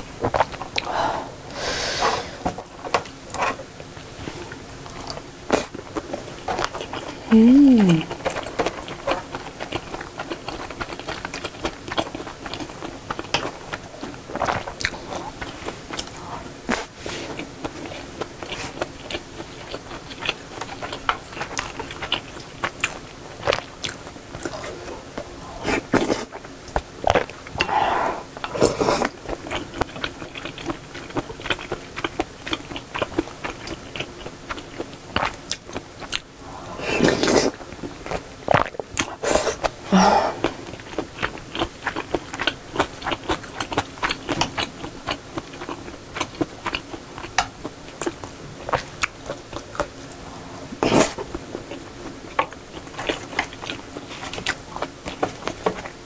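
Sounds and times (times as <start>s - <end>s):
person chewing food: 0.2s - 3.6s, 4.3s - 56.0s.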